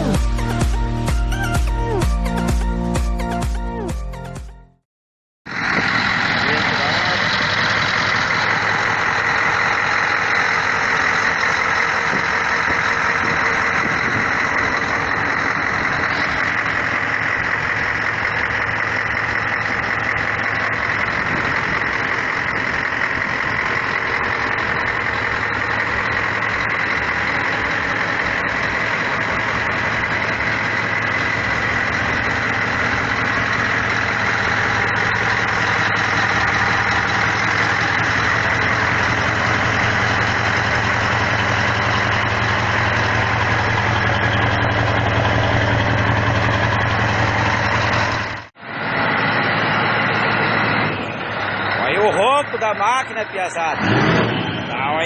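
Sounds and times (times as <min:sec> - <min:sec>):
diesel truck engine idling: 0:05.4 - 0:55.0.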